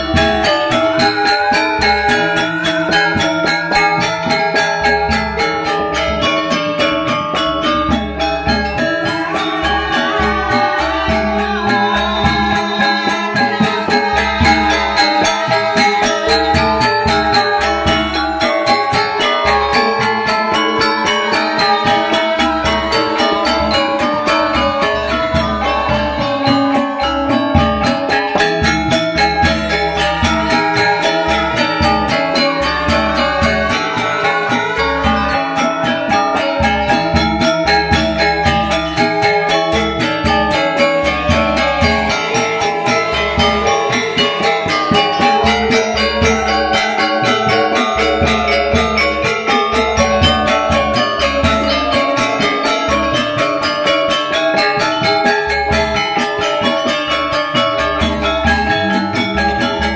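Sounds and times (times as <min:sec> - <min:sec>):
hand drums: 0:00.0 - 0:59.9.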